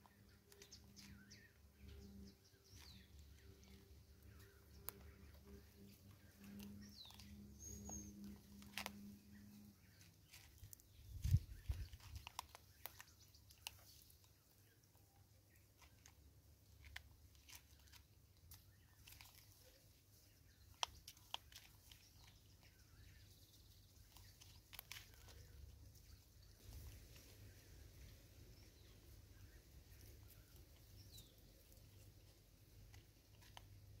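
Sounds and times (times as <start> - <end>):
monkey chewing: 0.2 - 34.0.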